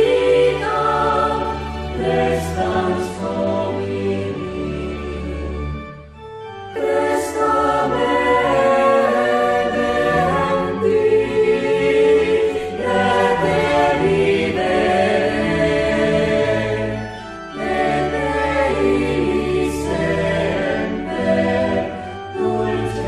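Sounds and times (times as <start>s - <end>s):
choir singing sacred music: 0.0s - 23.0s.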